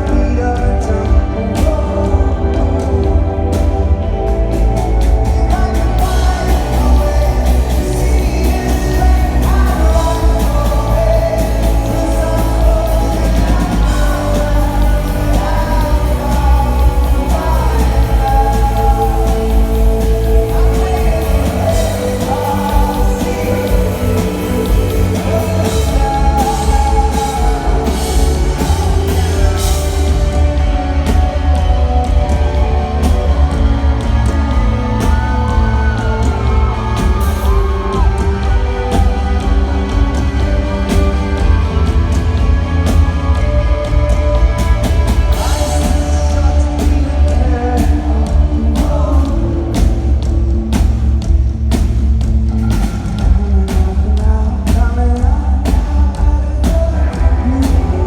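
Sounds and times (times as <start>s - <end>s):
male lead singer: 0.0s - 58.0s
rock band playing live: 0.0s - 58.0s.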